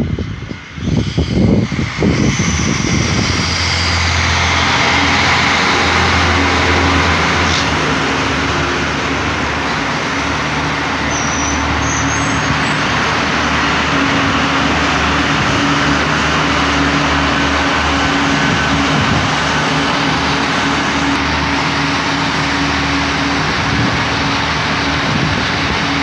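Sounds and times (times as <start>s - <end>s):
train engine drone: 0.0s - 26.0s
train wheels on rails: 0.0s - 26.0s.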